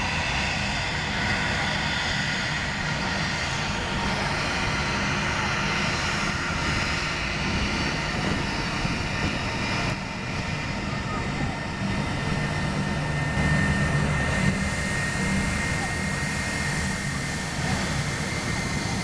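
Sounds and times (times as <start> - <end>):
jet engines whining and rumbling: 0.0 - 19.0.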